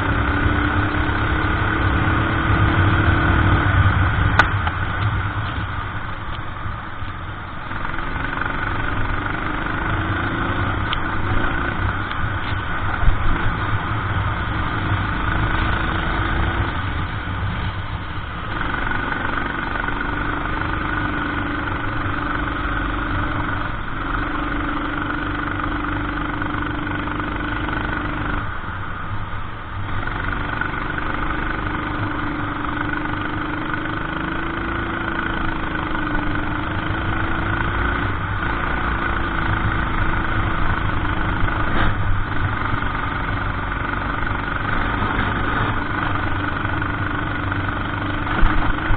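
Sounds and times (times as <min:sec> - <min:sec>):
racing kart engine: 0:00.0 - 0:48.9.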